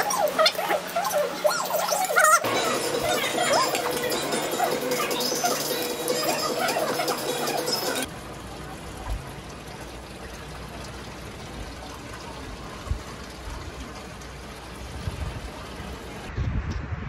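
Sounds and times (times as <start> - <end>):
water rushing and trickling: 0.0 - 16.4.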